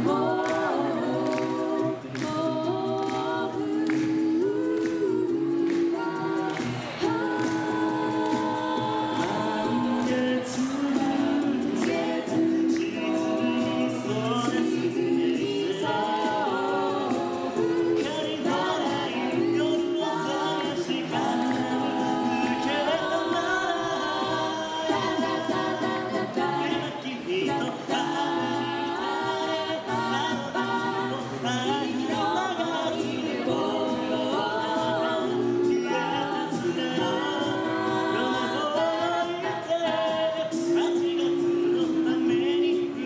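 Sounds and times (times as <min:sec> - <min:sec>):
a cappella group singing: 0:00.0 - 0:43.0.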